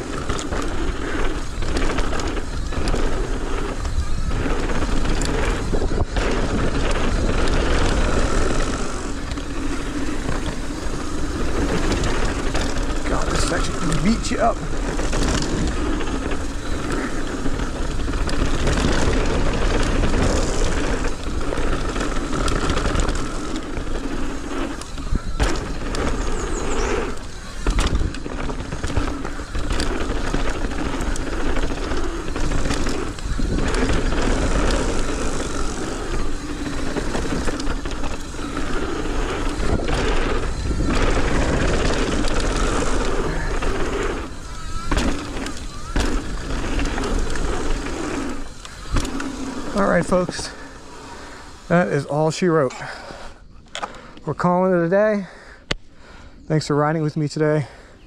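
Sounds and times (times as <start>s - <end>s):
wind rumbling on microphone: 0.0s - 53.9s
bike chain and frame rattling: 0.0s - 58.0s
bike tyres on dirt: 0.0s - 58.0s.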